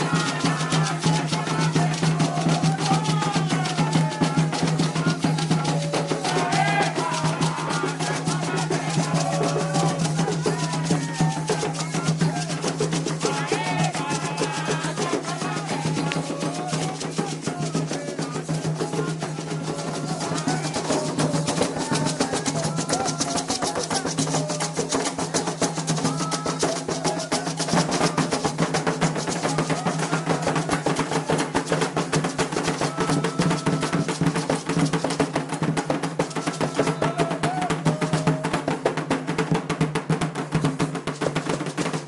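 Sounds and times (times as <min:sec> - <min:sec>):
voices singing: 0:00.0 - 0:34.9, 0:35.7 - 0:38.8
hand drums playing fast rhythm: 0:00.0 - 0:42.0.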